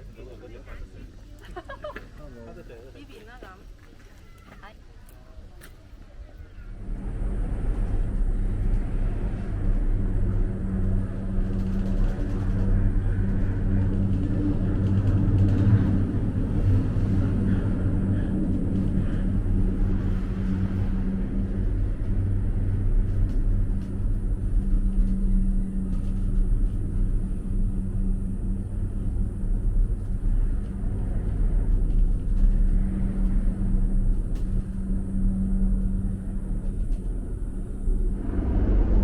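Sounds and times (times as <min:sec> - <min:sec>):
vehicle engine humming: 0:06.7 - 0:39.0.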